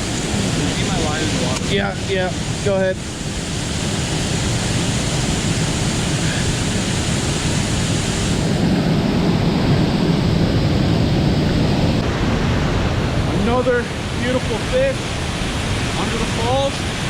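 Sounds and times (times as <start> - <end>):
waterfall rushing: 0.0 - 8.8, 9.9 - 17.0.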